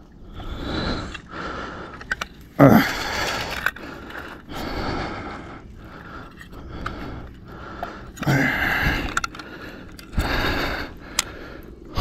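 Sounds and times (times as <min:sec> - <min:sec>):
man breathing heavily: 0:00.0 - 0:12.0.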